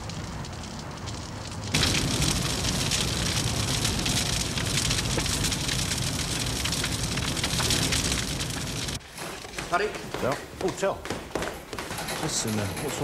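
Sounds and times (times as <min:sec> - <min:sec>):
fire rushing and crackling: 0:00.0 - 0:13.0.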